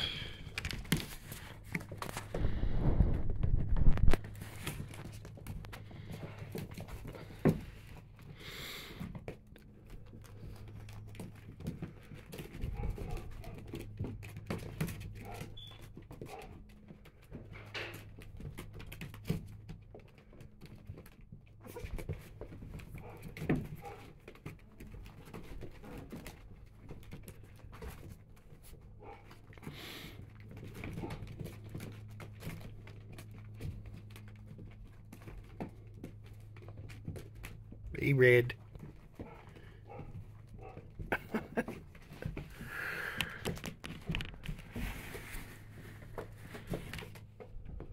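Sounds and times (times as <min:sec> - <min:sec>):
puppy claws scrabbling on plastic: 0:00.1 - 0:08.4, 0:09.0 - 0:47.9.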